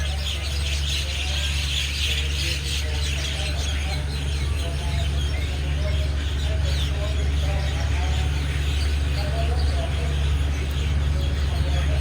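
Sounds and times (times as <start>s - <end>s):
birds chirping and chattering: 0.0s - 12.0s
diesel locomotive idling hum: 0.0s - 12.0s.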